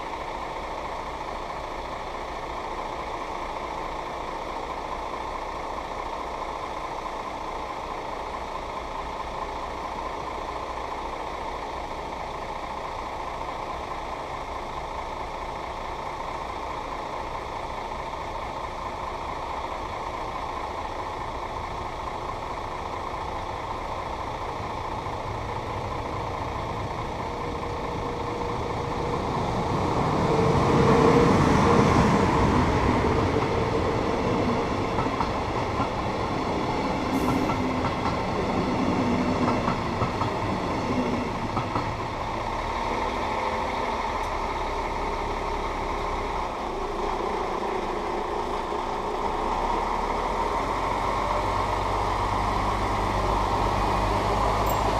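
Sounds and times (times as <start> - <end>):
lorry engine rumble: 0.0 - 54.9
train wheels running over rails: 0.0 - 54.9.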